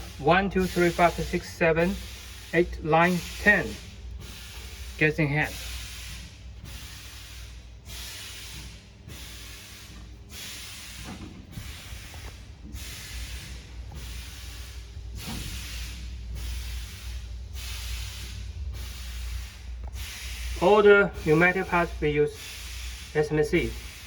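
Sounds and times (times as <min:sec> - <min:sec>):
low machine hum: 0:00.0 - 0:24.0
pneumatic hiss bursts: 0:00.0 - 0:24.0.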